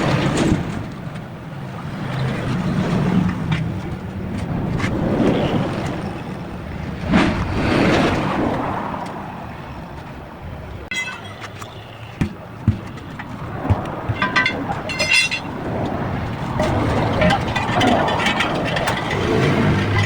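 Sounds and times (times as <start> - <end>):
vehicles passing: 1.3 - 20.0.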